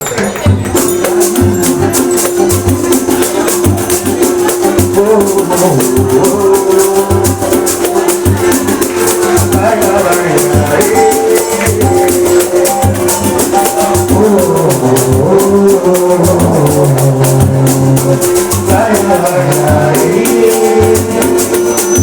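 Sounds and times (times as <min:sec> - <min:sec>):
deep drum beats: 0:00.0 - 0:22.0
fast shaker rhythm: 0:00.0 - 0:22.0.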